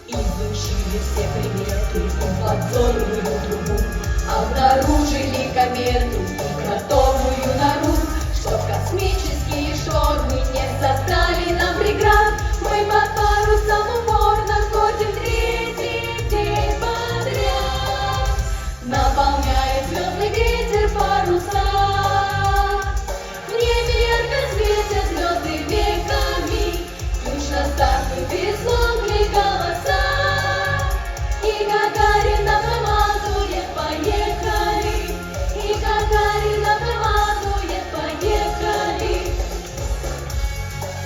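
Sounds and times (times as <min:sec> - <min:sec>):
young vocal ensemble singing: 0:00.0 - 0:40.6
instrumental accompaniment with bass: 0:00.0 - 0:41.0.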